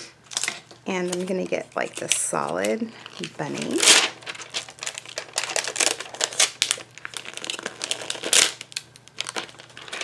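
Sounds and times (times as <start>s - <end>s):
plastic sheet crinkling: 0.3s - 10.0s.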